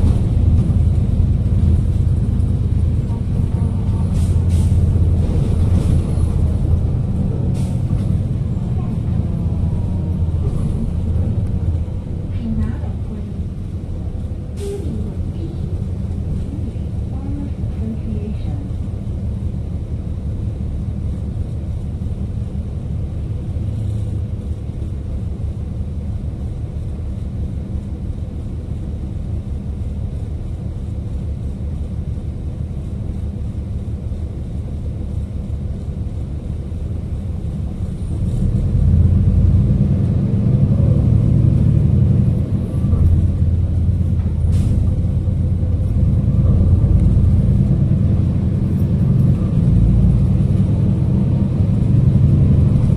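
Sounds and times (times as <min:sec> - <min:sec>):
bus engine and road rumble: 0:00.0 - 0:52.9.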